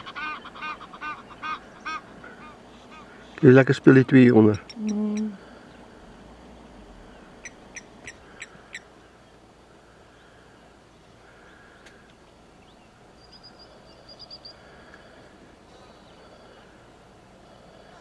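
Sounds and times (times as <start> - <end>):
bird chirping: 0.0 - 5.9, 6.5 - 9.5, 10.1 - 16.8
faint outdoor background noise: 0.0 - 18.0.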